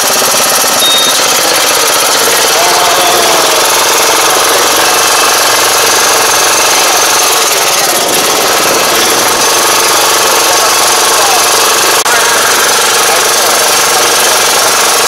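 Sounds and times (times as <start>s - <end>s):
rice transplanter mechanical rattle: 0.0s - 15.0s.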